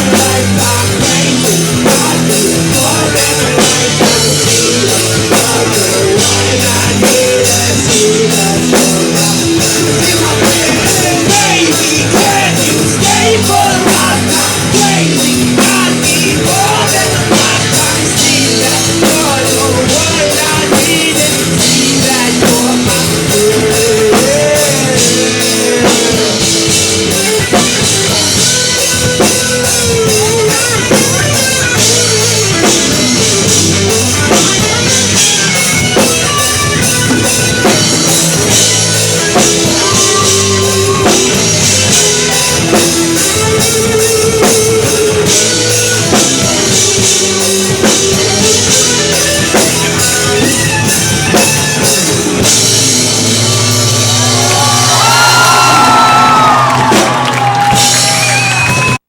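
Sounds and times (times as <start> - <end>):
person singing: 0.0 - 58.2
drum kit: 0.0 - 59.0
electric guitar: 0.0 - 59.0.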